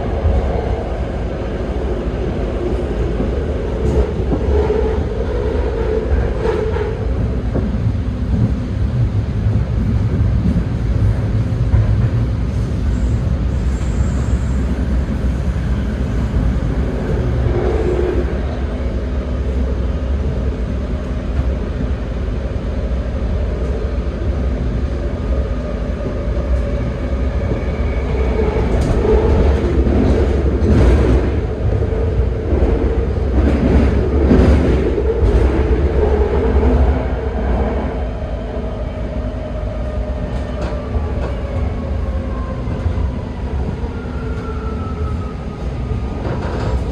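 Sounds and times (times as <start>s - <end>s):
train rumbling: 0.0s - 46.9s.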